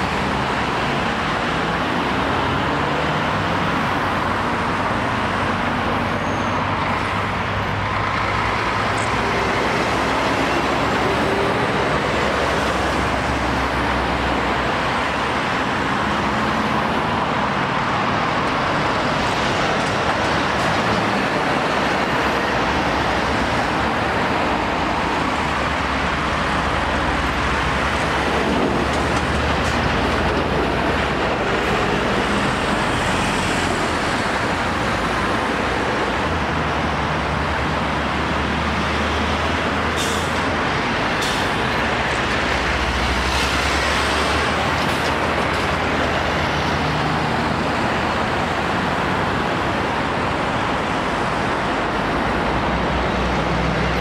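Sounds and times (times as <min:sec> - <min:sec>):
lorry engines passing: 0:00.0 - 0:54.0.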